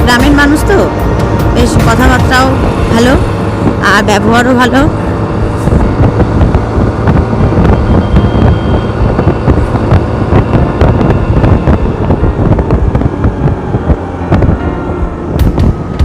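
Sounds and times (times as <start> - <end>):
two-wheeler running on road: 0.0 - 16.0
wind rushing over microphone: 0.0 - 16.0.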